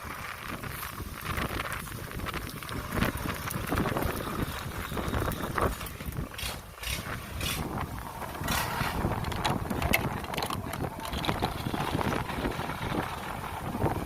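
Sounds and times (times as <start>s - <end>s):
combine harvester engine running: 0.0s - 14.0s
wind buffeting microphone: 0.0s - 14.0s.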